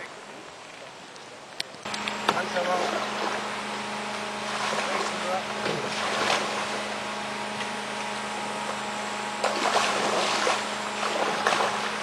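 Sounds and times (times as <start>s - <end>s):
low hum: 1.8s - 12.0s
paddle strokes splashing: 2.2s - 12.0s.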